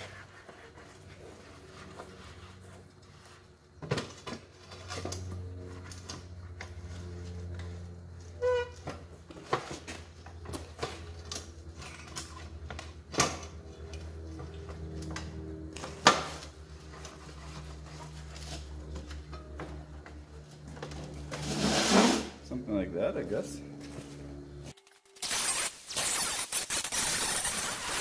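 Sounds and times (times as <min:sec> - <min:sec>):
steady low hum: 0:00.0 - 0:24.8.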